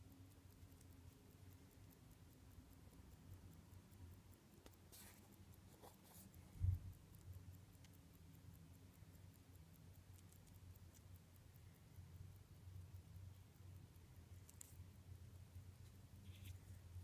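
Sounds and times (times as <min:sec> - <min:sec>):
watch ticking: 0:00.0 - 0:17.0.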